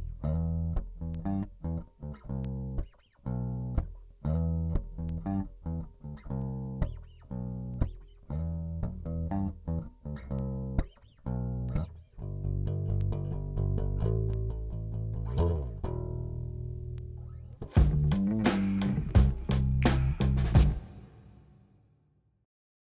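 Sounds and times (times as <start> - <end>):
bass guitar plucked notes: 0.0 - 20.9.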